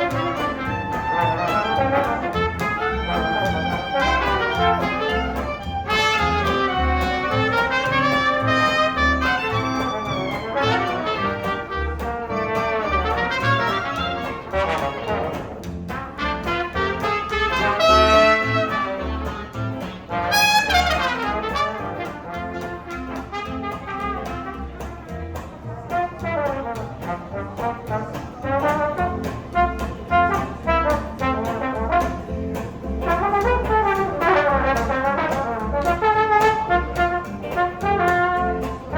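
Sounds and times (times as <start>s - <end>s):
trumpet melody: 0.0s - 25.2s, 25.9s - 38.9s
live jazz band playing: 0.0s - 38.9s.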